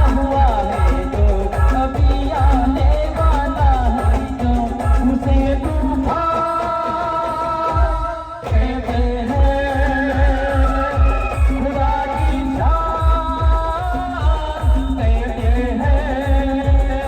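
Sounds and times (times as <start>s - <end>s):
band playing a song: 0.0s - 17.0s
heavy drum beat: 0.0s - 17.0s.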